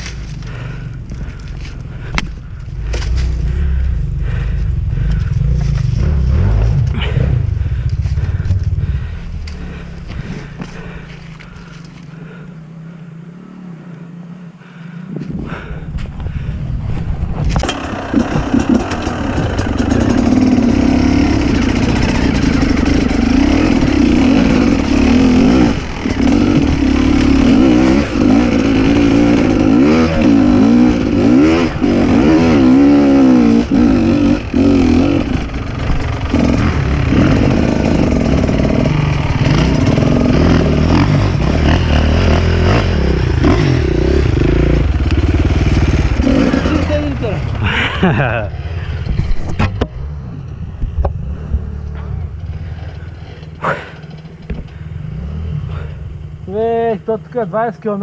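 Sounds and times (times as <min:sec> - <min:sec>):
dirt bike engine revving: 0:00.0 - 0:12.4, 0:17.4 - 0:57.6.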